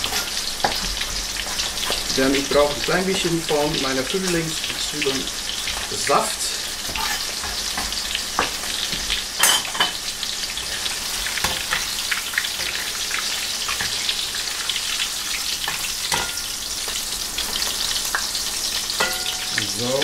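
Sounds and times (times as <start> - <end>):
oil sizzling in a pan: 0.0 - 20.0.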